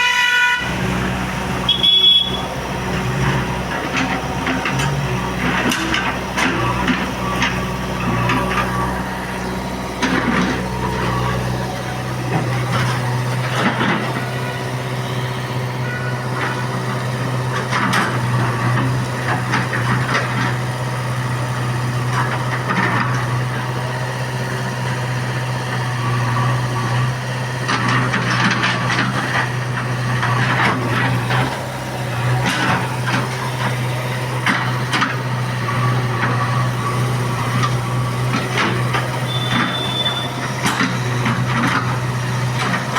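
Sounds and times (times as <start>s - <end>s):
heavy machinery engine running: 0.0s - 42.9s.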